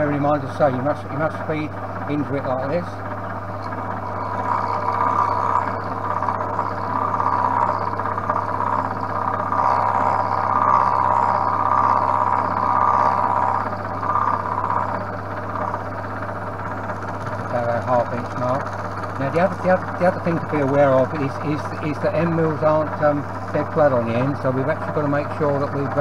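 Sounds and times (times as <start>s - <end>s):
milling machine motor hum: 0.0s - 26.0s.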